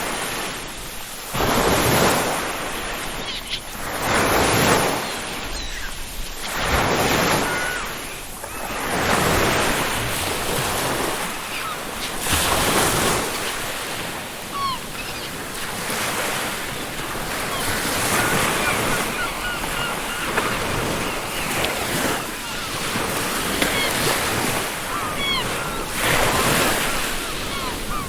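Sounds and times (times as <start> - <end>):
ocean waves breaking on beach: 0.0 - 28.0
seagull calls: 2.8 - 9.9, 11.0 - 28.0.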